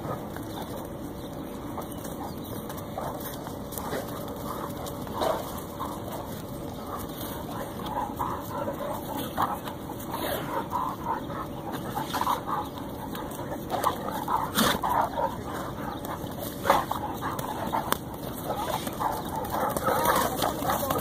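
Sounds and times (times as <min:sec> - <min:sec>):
dogs whining and grunting: 0:00.0 - 0:21.0.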